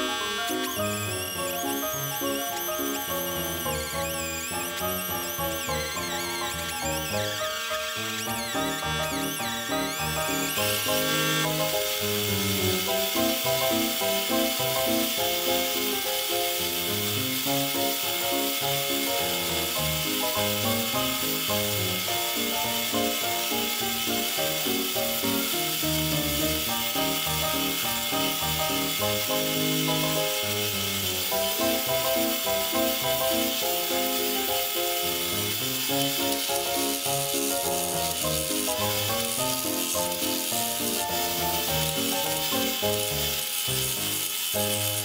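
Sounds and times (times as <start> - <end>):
belt sander grinding steel: 0.0 - 45.0
instrumental background music: 0.0 - 45.0.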